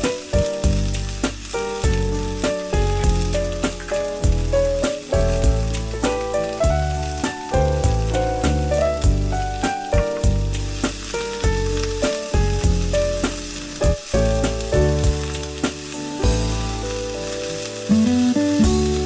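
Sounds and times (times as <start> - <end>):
food sizzling in a frying pan: 0.0 - 19.0
melodic background music: 0.0 - 19.0.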